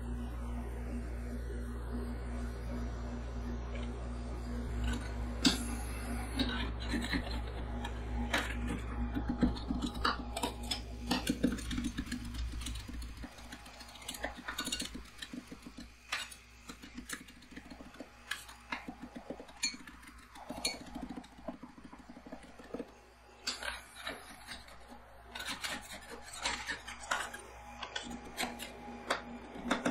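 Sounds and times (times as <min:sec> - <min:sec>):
low hum: 0:00.0 - 0:29.9.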